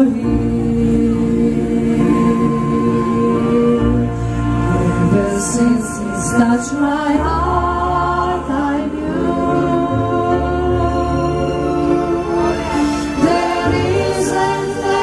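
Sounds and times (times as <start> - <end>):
choir singing sustained notes: 0.0 - 15.0
musical accompaniment with deep bass: 0.0 - 15.0.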